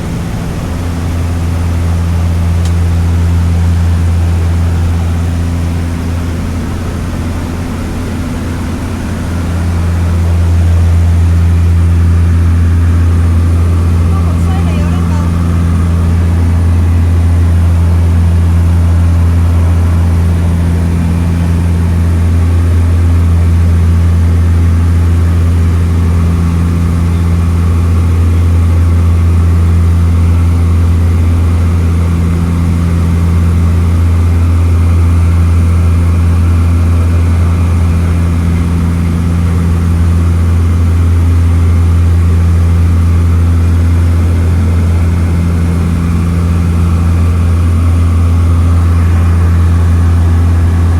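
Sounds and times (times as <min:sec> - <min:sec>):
seaplane engines droning: 0:00.0 - 0:50.9.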